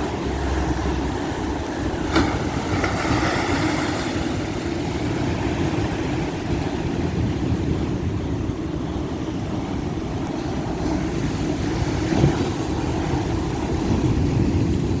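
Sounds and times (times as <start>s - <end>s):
rumble of waves: 0.0s - 15.0s.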